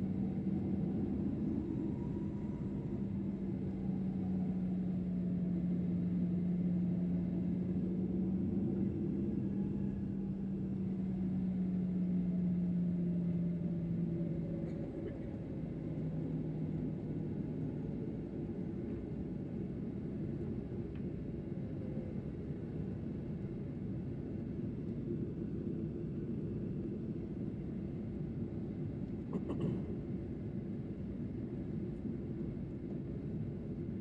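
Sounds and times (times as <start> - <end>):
jet engine cabin rumble: 0.0 - 34.0.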